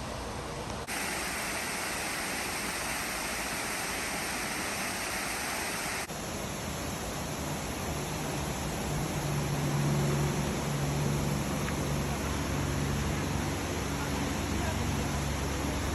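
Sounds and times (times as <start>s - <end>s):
waterfall roaring: 0.8s - 15.9s.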